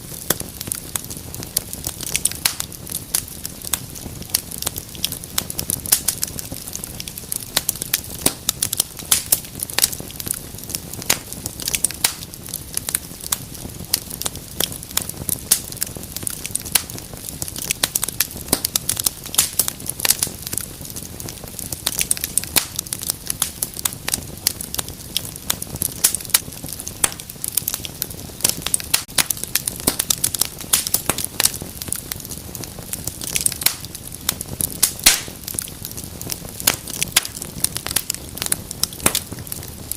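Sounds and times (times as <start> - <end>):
low rush of flame: 0.0 - 39.9
wood fire crackling and popping: 0.0 - 39.9.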